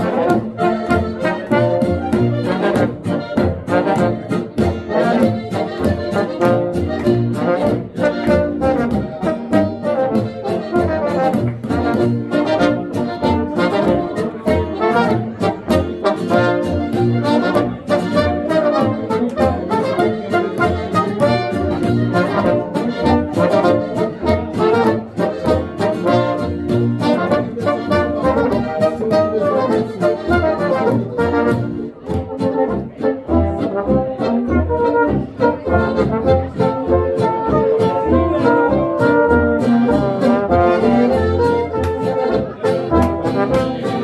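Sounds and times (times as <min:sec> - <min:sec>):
button accordion: 0:00.0 - 0:37.3
brass horns melody: 0:00.0 - 0:44.0
guitar: 0:00.0 - 0:44.0
tuba oom-pah bass: 0:00.0 - 0:44.0.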